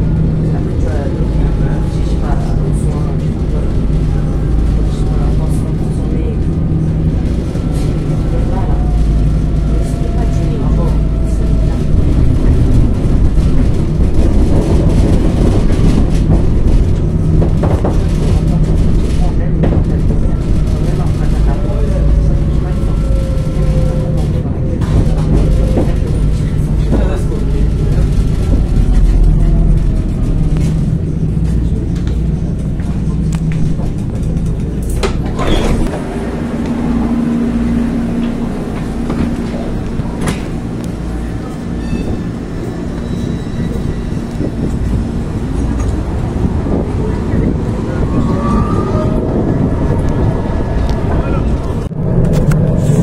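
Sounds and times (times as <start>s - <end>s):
tram wheels rumbling on rails: 0.0s - 53.0s.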